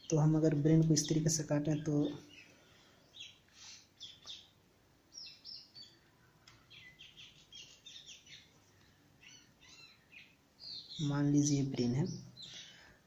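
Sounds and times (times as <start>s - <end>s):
faint high bird chirps: 1.0s - 8.5s, 9.2s - 12.7s.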